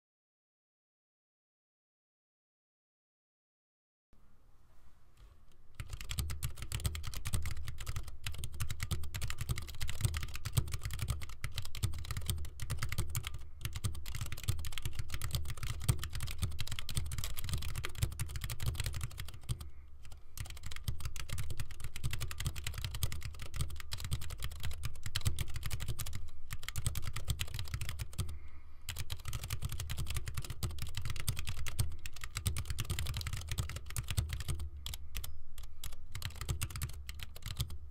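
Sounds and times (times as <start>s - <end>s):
fast typing on mechanical keyboard: 5.8s - 28.3s, 28.9s - 37.8s.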